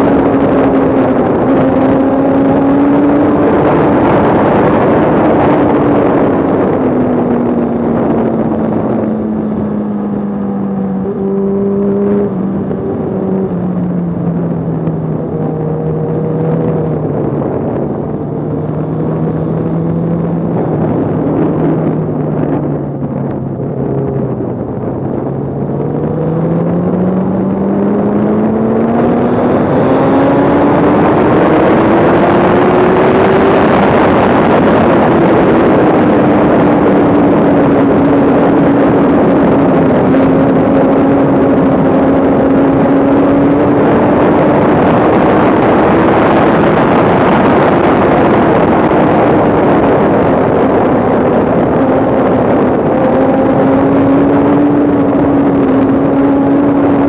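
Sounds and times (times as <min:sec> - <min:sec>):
motorcycle engine: 0:00.0 - 0:57.0
wind rush on microphone: 0:00.0 - 0:57.0.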